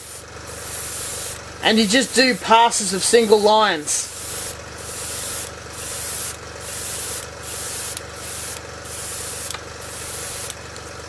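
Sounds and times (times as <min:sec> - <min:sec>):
airbrush spraying hiss: 0:00.0 - 0:02.7, 0:04.0 - 0:10.5
compressor hum: 0:00.0 - 0:11.0.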